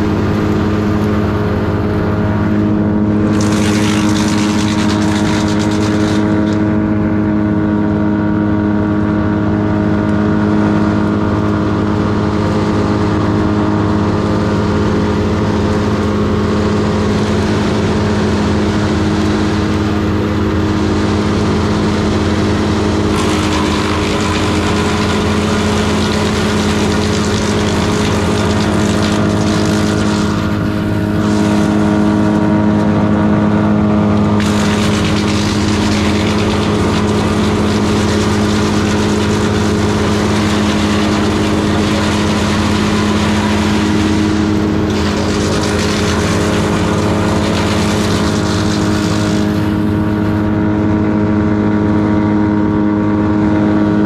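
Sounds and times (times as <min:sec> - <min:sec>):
cutter chipping branches: 0:00.0 - 0:07.6, 0:09.9 - 0:51.2
wood chipper engine running: 0:00.0 - 0:54.0.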